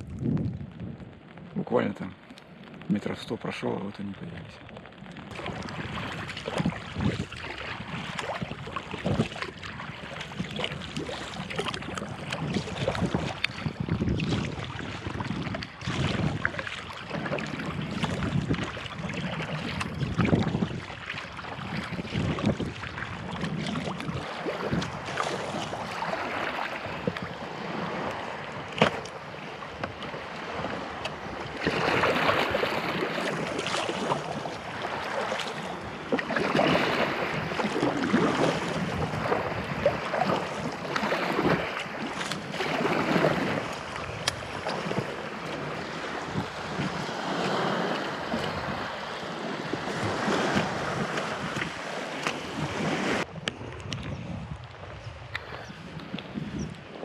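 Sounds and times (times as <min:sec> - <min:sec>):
water splashing against kayak: 0:00.0 - 0:57.0
wind buffeting microphone: 0:00.0 - 0:57.0.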